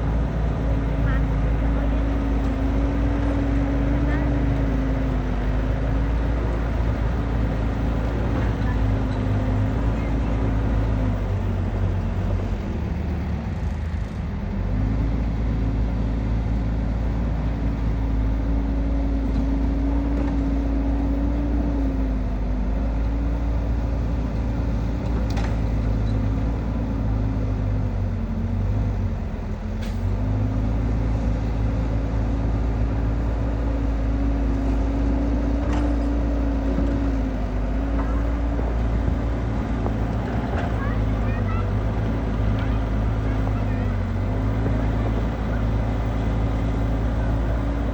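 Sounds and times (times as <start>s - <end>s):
combine harvester diesel engine running: 0.0s - 47.9s.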